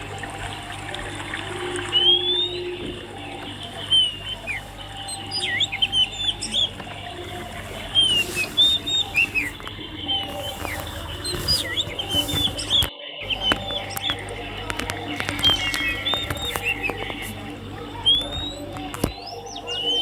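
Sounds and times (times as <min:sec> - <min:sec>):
steady low hum: 0:00.0 - 0:20.0
swiftlets chirping: 0:00.0 - 0:20.0.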